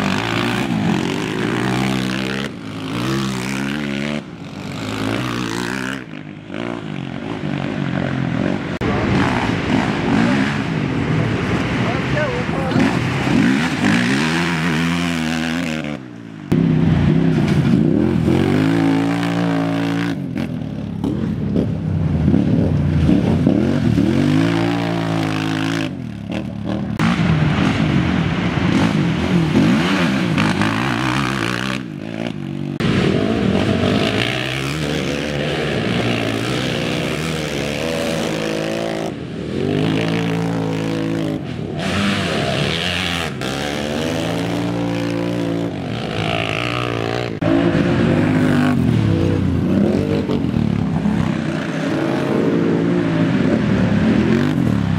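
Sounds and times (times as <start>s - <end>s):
quad engines revving: 0.0s - 54.9s.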